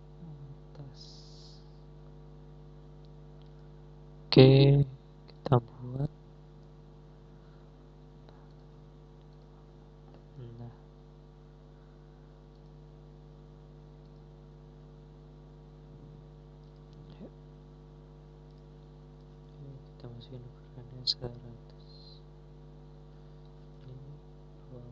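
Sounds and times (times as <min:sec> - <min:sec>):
electrical mains hum: 0:00.0 - 0:24.9.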